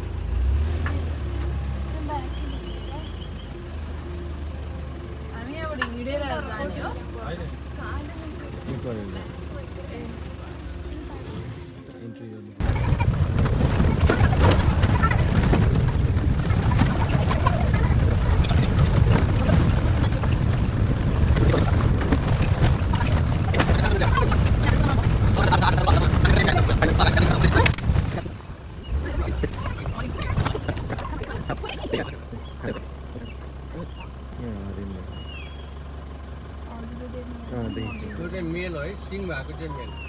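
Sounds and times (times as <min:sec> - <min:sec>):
road noise: 0:00.0 - 0:40.0
vehicle engine rumble: 0:00.0 - 0:40.0.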